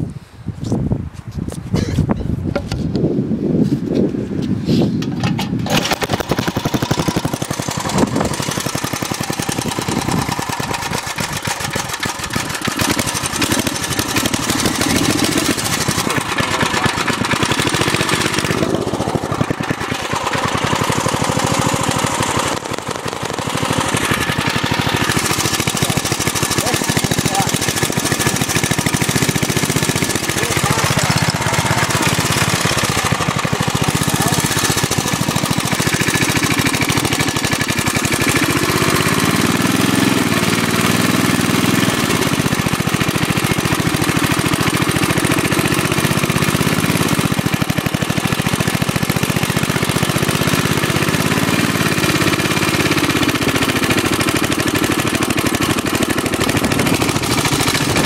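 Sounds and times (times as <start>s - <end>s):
motorcycle engine revving: 5.0s - 58.0s.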